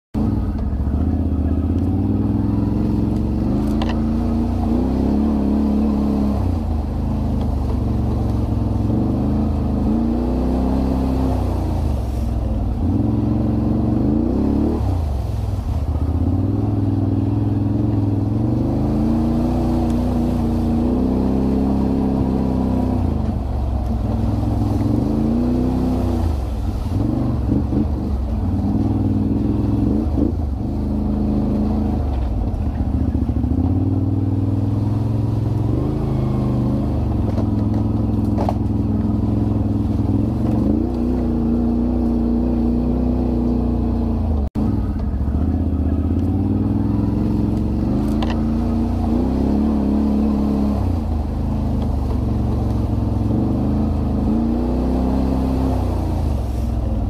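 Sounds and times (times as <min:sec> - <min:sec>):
off-road vehicle engine revving: 0:00.2 - 0:57.0.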